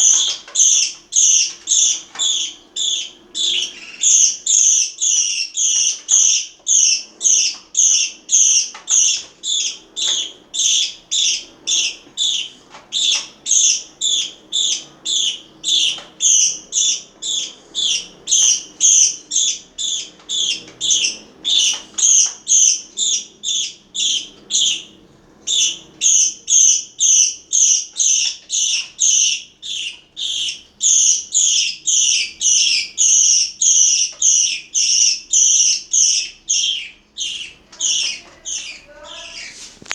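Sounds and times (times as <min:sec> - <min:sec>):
parakeets chirping: 0:00.0 - 0:39.9.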